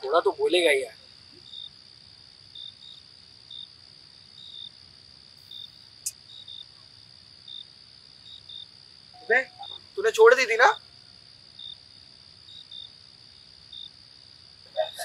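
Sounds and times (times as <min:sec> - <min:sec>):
crickets chirping: 0:00.0 - 0:15.0
high insect trill: 0:00.0 - 0:15.0.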